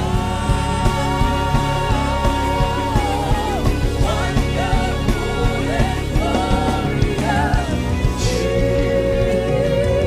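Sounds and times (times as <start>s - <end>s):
live gospel band music: 0.0s - 10.0s
steady bass: 0.0s - 10.0s.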